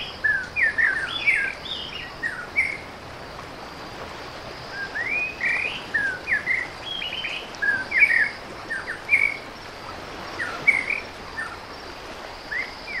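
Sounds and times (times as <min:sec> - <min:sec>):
birds singing: 0:00.0 - 0:03.1, 0:04.5 - 0:11.8, 0:12.4 - 0:13.0.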